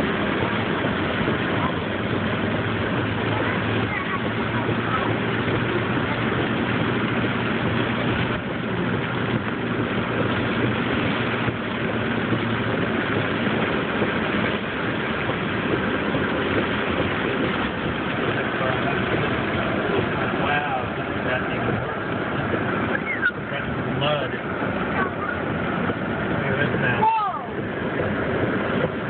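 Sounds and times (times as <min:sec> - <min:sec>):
low engine hum: 0:00.0 - 0:29.0
tyres hissing on wet pavement: 0:00.0 - 0:29.0.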